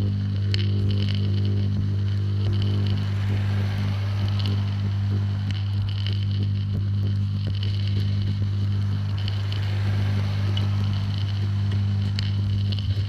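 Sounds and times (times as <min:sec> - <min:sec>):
faint crackling: 0:00.0 - 0:13.0
low two-pitch hum: 0:00.0 - 0:13.0.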